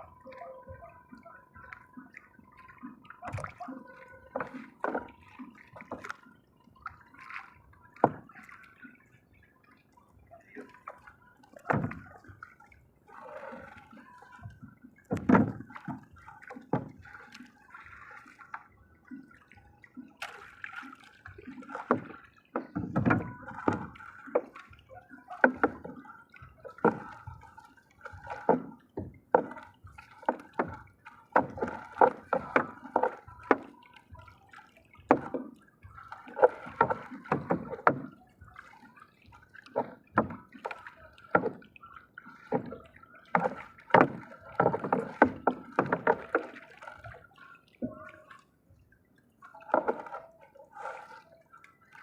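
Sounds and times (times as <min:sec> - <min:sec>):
water splashing and dripping: 0:00.0 - 0:52.0.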